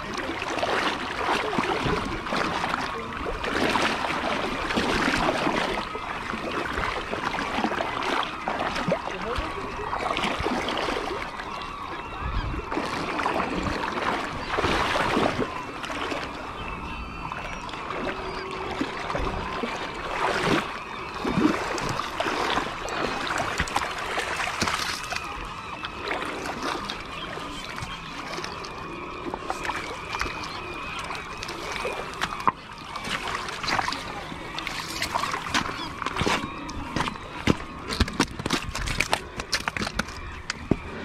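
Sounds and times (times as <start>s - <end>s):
water noise: 0.0s - 41.0s
birds calling: 0.8s - 41.0s.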